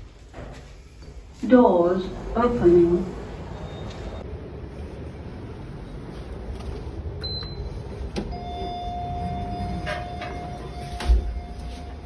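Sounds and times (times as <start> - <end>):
low machine rumble: 1.7 - 12.0.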